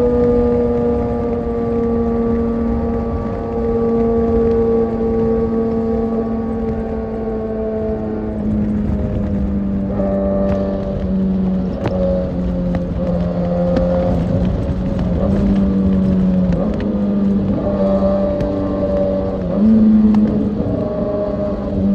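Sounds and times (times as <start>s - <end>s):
motorcycle engine cruising: 0.0s - 21.9s.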